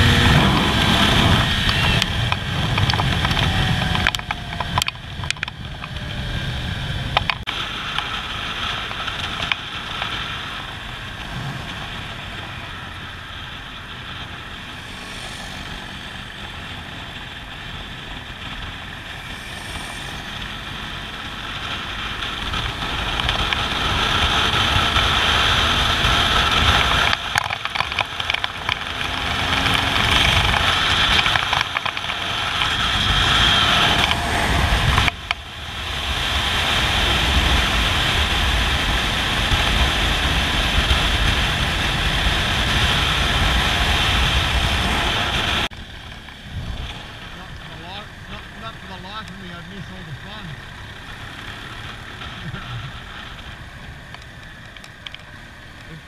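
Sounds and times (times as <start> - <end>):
wind rush on microphone: 0.0 - 55.2
motorcycle engine running: 0.0 - 56.0.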